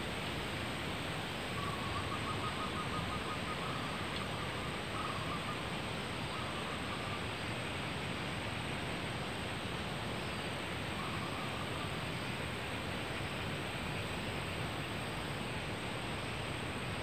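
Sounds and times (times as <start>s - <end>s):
forest hiss: 0.0s - 17.0s.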